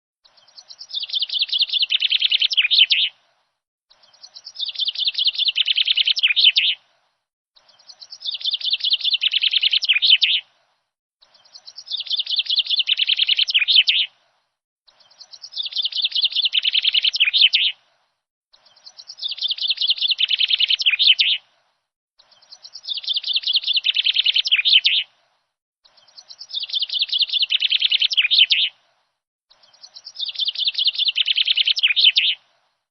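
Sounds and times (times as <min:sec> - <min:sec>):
songbird chirping: 0:00.2 - 0:32.8.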